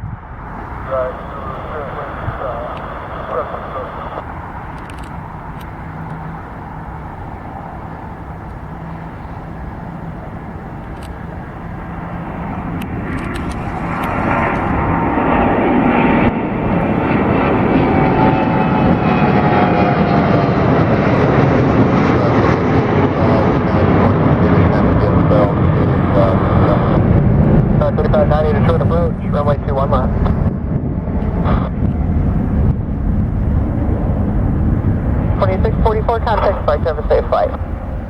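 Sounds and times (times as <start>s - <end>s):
jet airliner engines whining: 0.3s - 38.0s.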